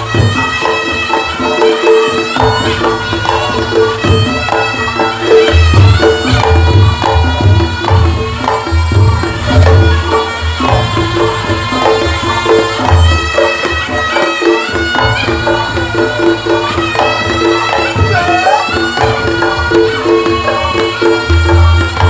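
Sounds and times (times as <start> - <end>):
drums: 0.0 - 22.0
shawm melody: 0.0 - 22.0.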